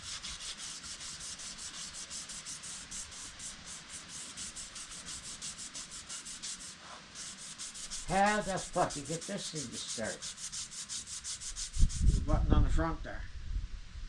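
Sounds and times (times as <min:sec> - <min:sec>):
sandpaper rasping on metal: 0:00.0 - 0:12.2.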